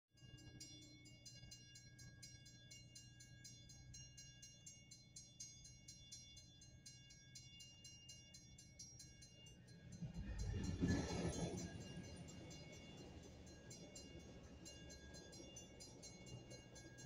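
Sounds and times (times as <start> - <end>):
railroad crossing bell ringing: 0.2 - 17.0.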